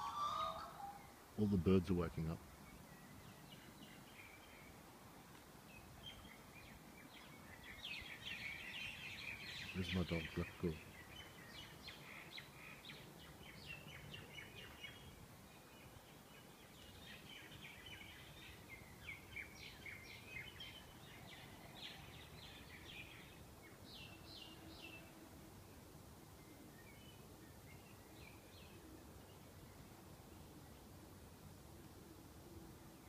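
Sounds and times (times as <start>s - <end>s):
small birds chirping: 0.3s - 31.2s.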